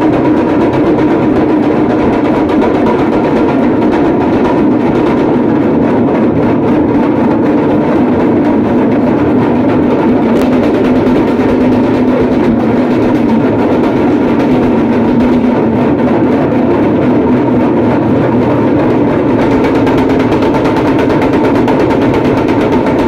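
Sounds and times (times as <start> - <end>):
pellet drums rolling: 0.0 - 23.0.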